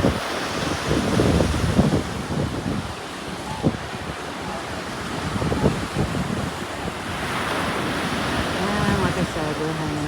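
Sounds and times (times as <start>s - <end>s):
surf: 0.0s - 10.0s
wind buffeting microphone: 0.0s - 10.0s.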